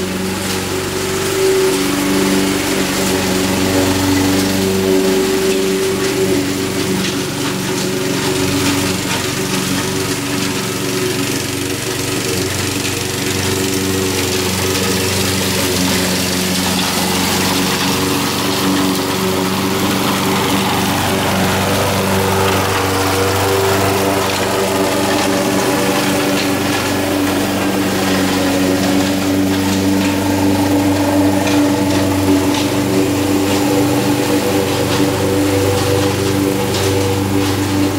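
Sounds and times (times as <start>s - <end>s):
lawn mower engine running: 0.0s - 37.9s.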